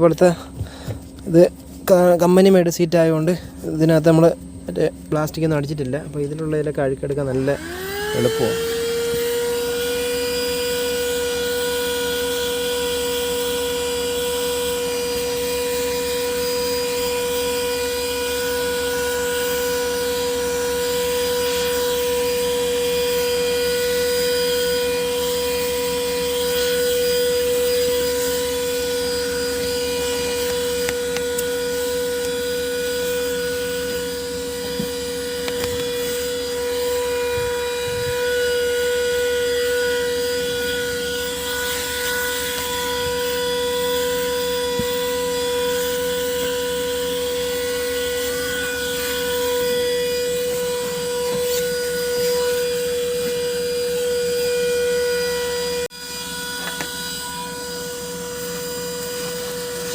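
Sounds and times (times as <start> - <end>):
handheld vacuum cleaner whining: 0.0 - 59.9.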